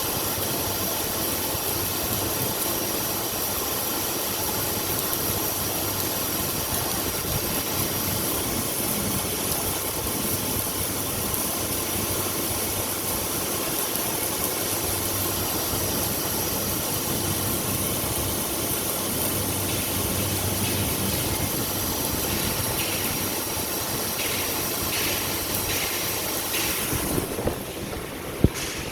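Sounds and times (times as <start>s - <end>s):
machine drone with hum and hiss: 0.0s - 28.9s.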